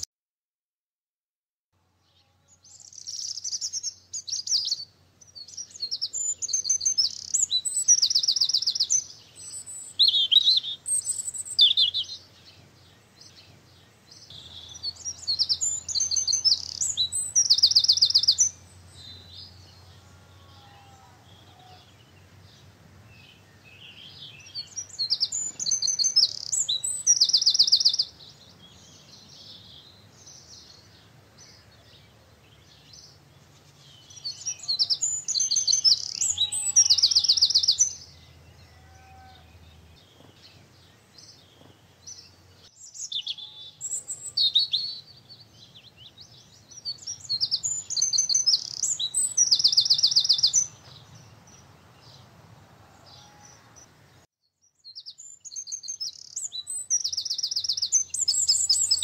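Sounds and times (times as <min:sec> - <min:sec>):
songbird singing: 0:01.8 - 0:59.0.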